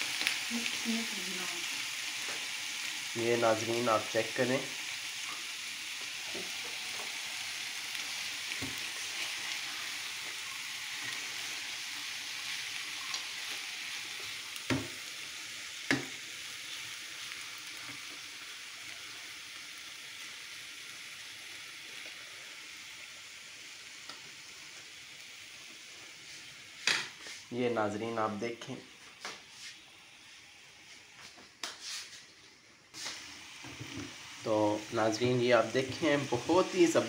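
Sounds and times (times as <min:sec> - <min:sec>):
rice sizzling in a frying pan: 0:00.0 - 0:37.0.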